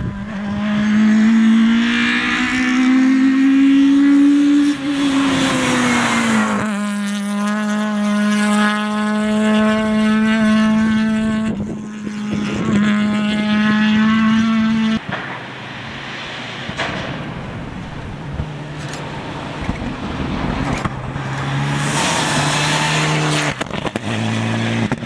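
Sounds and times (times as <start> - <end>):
rally car engine at high revs: 0.0 - 15.1, 18.0 - 25.0.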